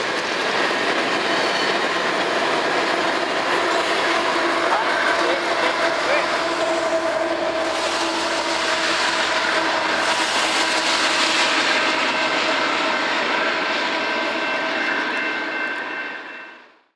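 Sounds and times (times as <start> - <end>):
diesel locomotive moving away: 0.0 - 16.9.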